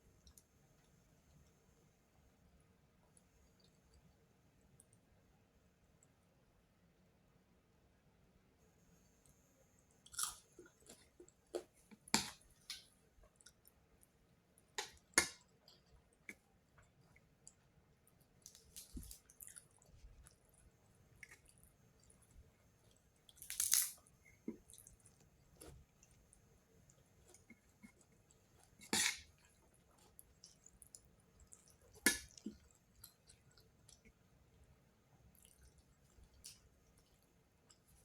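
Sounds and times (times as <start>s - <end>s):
cat chewing and crunching food: 0.0s - 6.2s, 8.6s - 38.0s.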